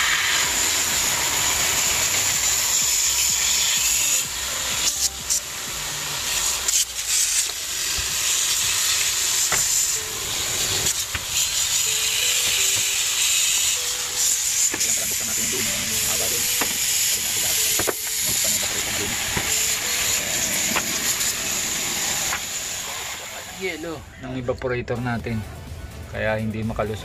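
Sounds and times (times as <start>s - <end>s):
hose water spraying hiss: 0.0s - 24.0s.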